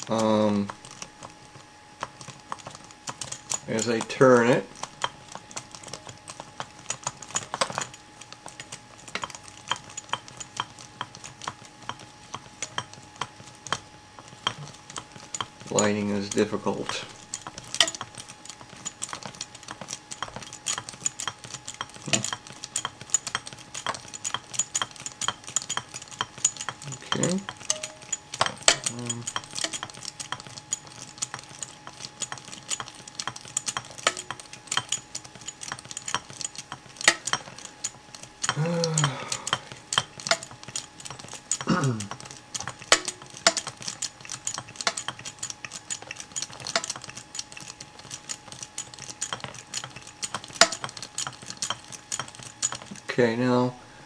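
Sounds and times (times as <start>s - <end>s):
ratchet wrench clicking: 2.0s - 53.0s.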